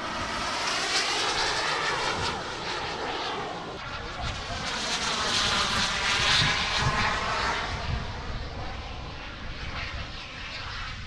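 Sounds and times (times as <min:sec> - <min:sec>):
model airplane engine flying past: 0:00.0 - 0:11.0.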